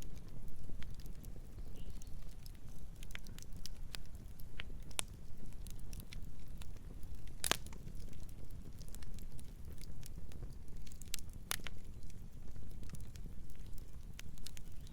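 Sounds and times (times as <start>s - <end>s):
burning wood crackling and popping: 0.0s - 14.9s
campfire flames rumbling: 0.0s - 14.9s.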